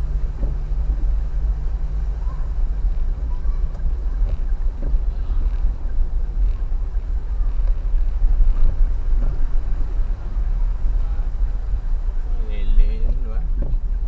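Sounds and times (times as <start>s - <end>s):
vehicle driving through floodwater: 0.0s - 14.0s.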